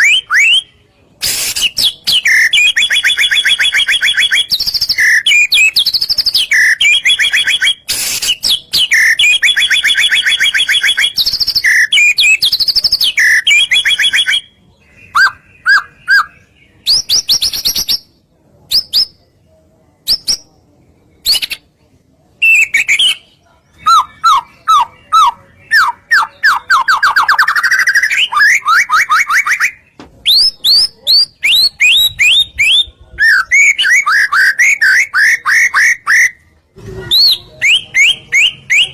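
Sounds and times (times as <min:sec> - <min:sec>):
bird singing trills and chattering: 0:00.0 - 0:18.1, 0:22.4 - 0:36.4.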